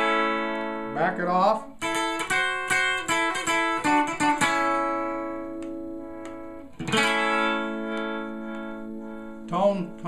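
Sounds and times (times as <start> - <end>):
electric guitar picked notes: 0.0 - 10.0.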